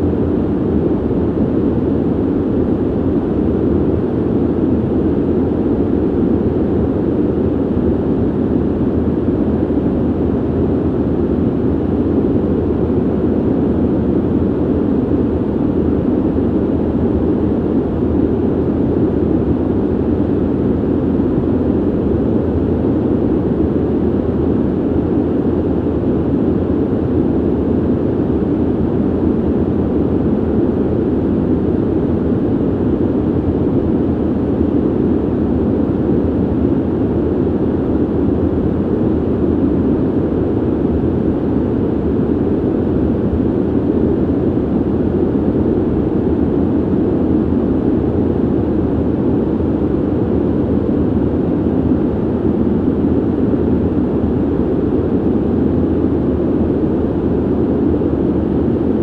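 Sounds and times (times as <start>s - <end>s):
ventilation air rushing: 0.0s - 59.0s.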